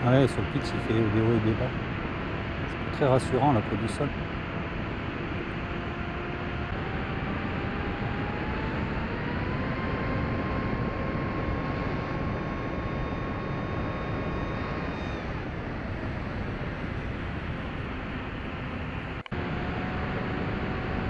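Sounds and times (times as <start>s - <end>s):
motor and propeller whine: 0.0s - 21.0s.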